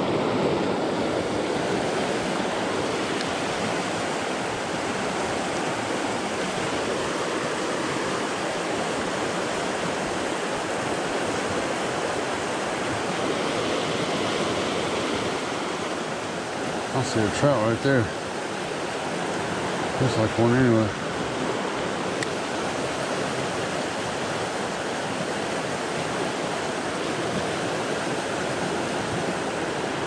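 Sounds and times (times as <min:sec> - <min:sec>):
stream rushing over rocks: 0:00.0 - 0:30.0.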